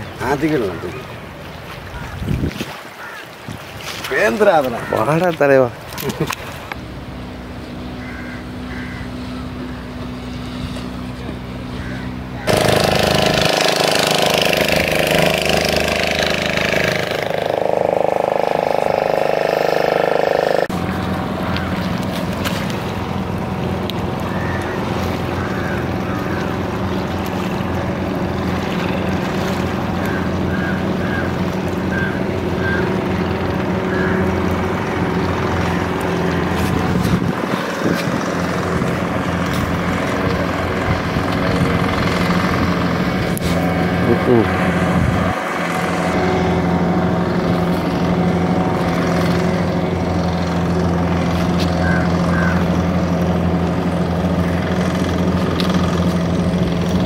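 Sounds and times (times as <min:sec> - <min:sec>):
motorboat engine droning: 0:00.0 - 0:57.0.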